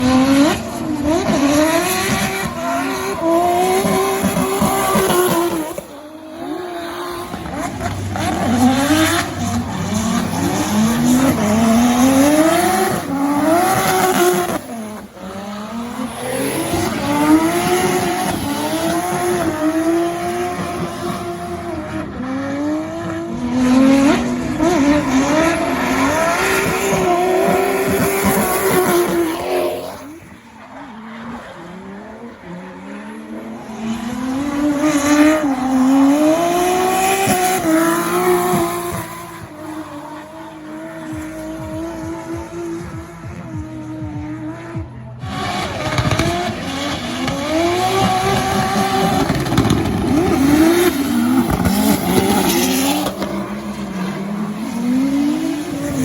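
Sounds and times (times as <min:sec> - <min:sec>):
car engine revving hard: 0:00.0 - 0:30.1, 0:31.6 - 0:56.0.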